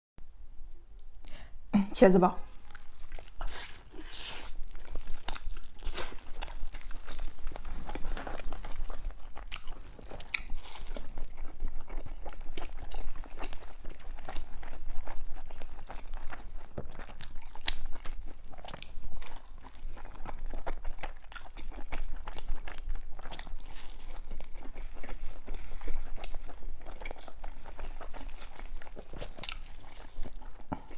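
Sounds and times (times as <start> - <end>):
person chewing and crunching: 2.5 - 30.9.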